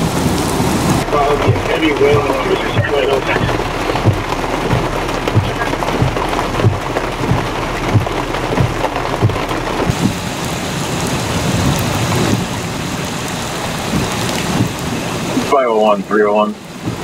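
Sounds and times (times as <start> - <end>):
strong wind: 0.0 - 15.6
heavy rain: 0.0 - 17.0
low thumps: 0.9 - 10.6, 11.2 - 15.5.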